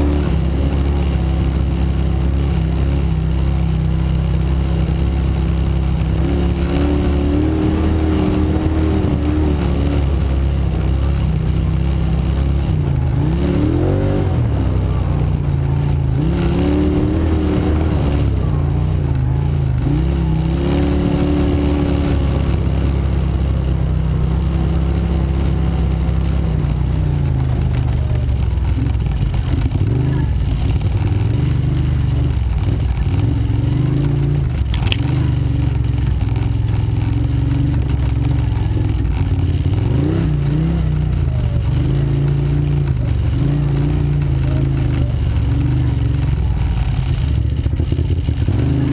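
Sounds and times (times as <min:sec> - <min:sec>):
quad engine revving: 0:00.0 - 0:48.9.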